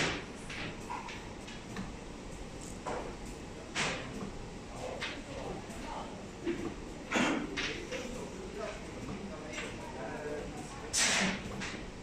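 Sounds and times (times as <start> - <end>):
workshop machinery hum: 0.0 - 12.0.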